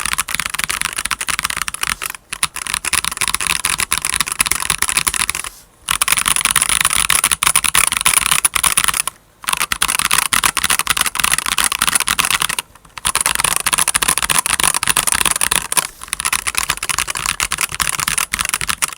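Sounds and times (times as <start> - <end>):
mechanical keyboard typing: 0.0 - 18.9.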